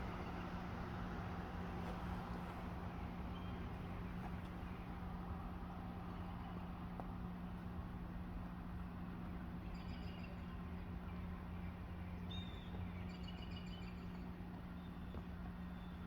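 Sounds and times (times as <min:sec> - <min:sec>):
soft background rush: 0:00.0 - 0:16.0
steady low hum: 0:00.0 - 0:16.0.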